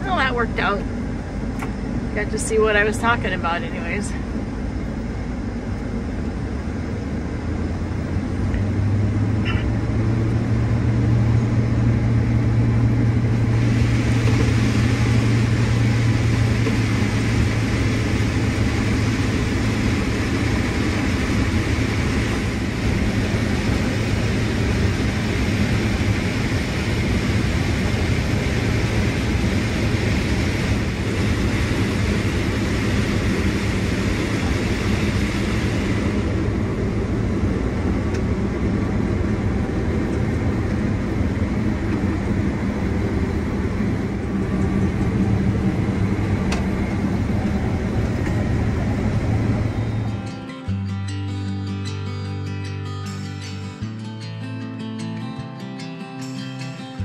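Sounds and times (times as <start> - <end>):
combine harvester running: 0.0 - 51.4.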